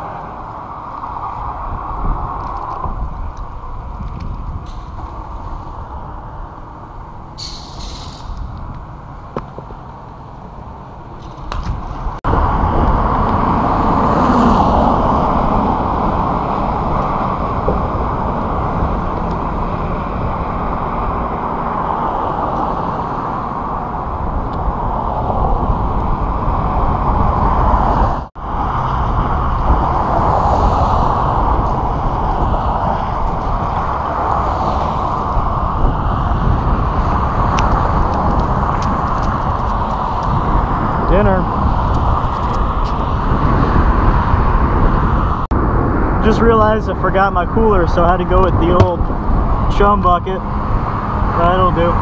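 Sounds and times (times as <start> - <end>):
strong wind buffeting microphone: 0.0 - 52.0.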